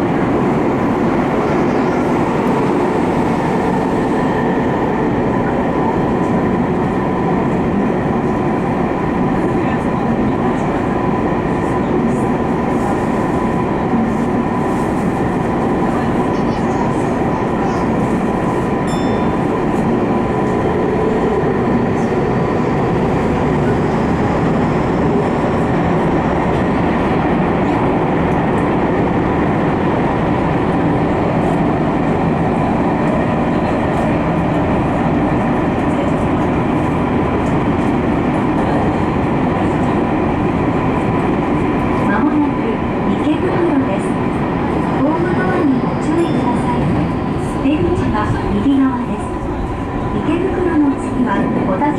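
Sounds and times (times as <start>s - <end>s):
train whine: 0.0s - 51.9s
wheels rumbling on rail: 0.0s - 51.9s.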